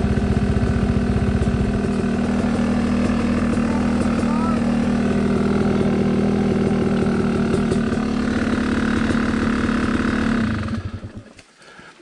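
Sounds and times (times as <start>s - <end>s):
dirt bike engine idling: 0.0s - 11.8s.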